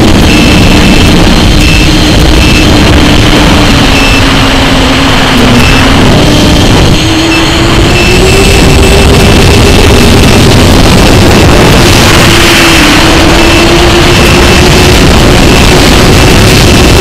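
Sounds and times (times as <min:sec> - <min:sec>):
electric motor whine: 0:00.0 - 0:17.0
wind rush: 0:00.0 - 0:17.0.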